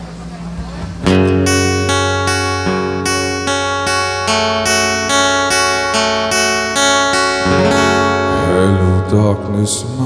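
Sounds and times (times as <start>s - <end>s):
acoustic guitar arpeggios: 1.0s - 10.0s.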